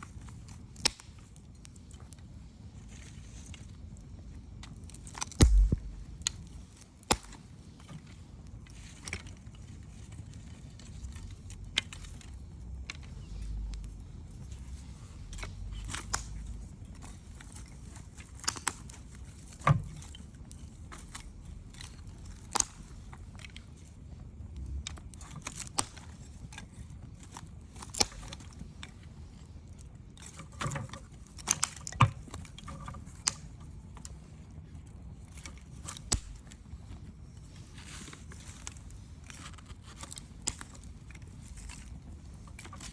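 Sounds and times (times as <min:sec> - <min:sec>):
burning wood popping: 0:00.1 - 0:42.9
campfire crackling: 0:03.5 - 0:07.8, 0:11.2 - 0:30.3, 0:31.1 - 0:42.9.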